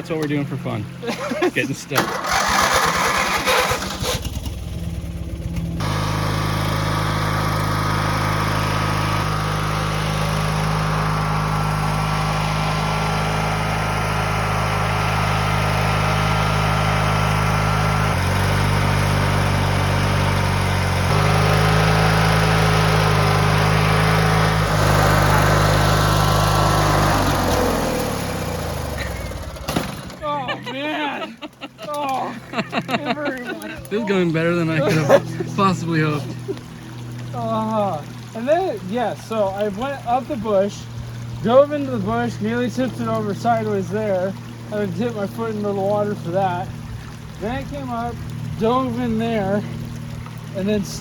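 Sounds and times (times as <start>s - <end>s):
lawn mower engine running: 0.0s - 51.0s.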